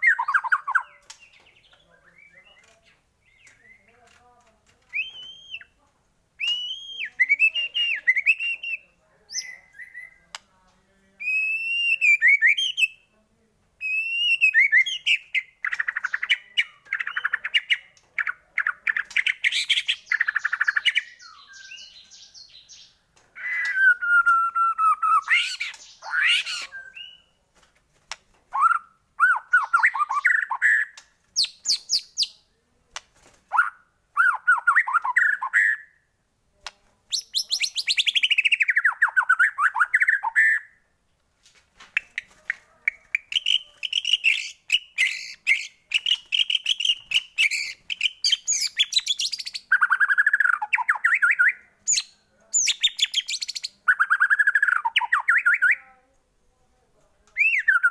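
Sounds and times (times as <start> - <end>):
shama bird singing: 0.0 - 4.2, 4.9 - 5.8, 6.4 - 10.4, 11.2 - 13.1, 13.8 - 27.4, 28.5 - 32.5, 33.5 - 36.0, 37.1 - 40.8, 42.0 - 55.8, 57.4 - 57.9.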